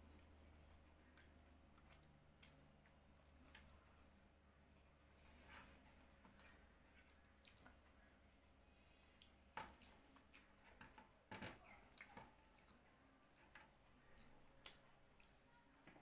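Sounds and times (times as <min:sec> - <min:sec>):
wet chewing sounds: 0:00.0 - 0:16.0.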